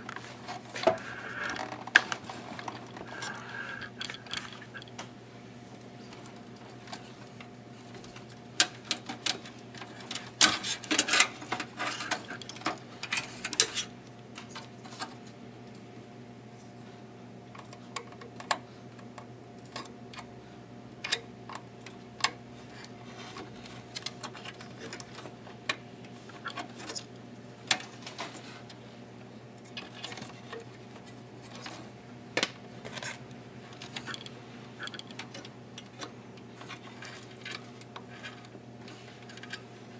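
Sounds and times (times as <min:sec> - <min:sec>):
cables clicking and rustling: 0:00.0 - 0:15.9, 0:17.5 - 0:20.3, 0:20.9 - 0:39.9
steady low hum: 0:00.0 - 0:39.9.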